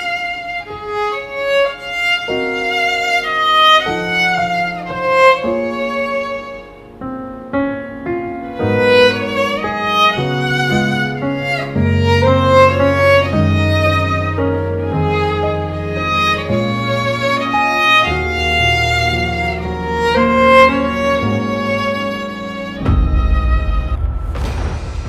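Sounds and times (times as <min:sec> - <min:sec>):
violin melody: 0:00.0 - 0:23.9
string and piano accompaniment: 0:00.0 - 0:24.7.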